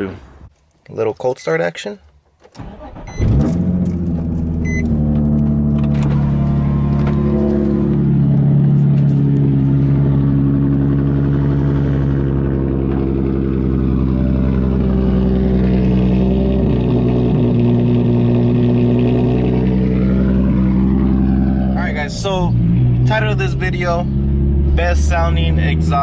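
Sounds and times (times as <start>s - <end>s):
car engine idling: 2.1s - 26.0s.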